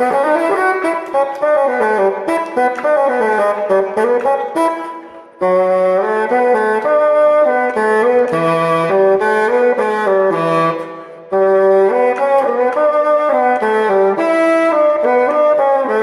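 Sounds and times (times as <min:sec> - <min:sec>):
solo bassoon melody: 0:00.0 - 0:16.0.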